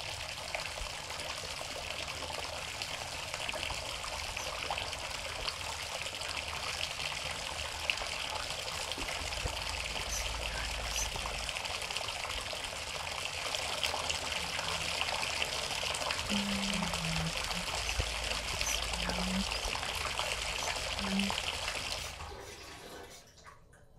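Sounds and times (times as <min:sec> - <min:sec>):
water pouring from bathtub spout: 0:00.0 - 0:23.8.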